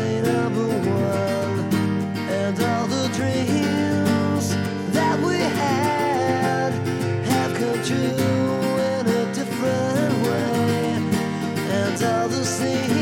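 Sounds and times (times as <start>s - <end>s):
strummed acoustic guitar song: 0.0s - 13.0s.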